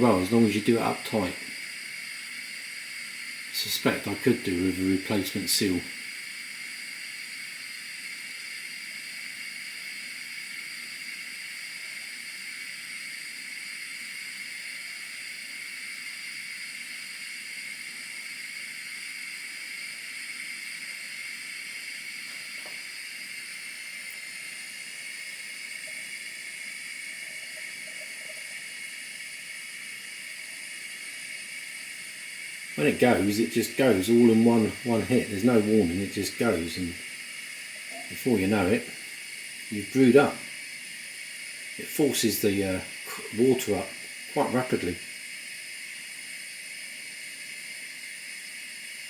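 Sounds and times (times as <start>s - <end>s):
stovetop espresso pot hissing: 0.0s - 49.0s.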